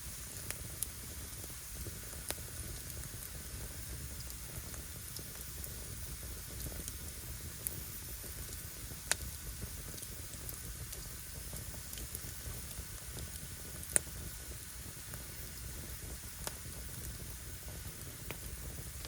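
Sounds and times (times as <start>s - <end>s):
firewood crackling and hissing: 0.0s - 19.0s
sharp pops from burning wood: 0.0s - 19.0s.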